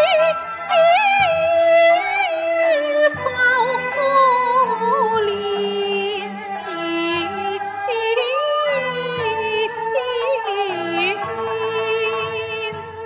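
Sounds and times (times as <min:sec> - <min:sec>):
opera singing melody: 0:00.0 - 0:13.0.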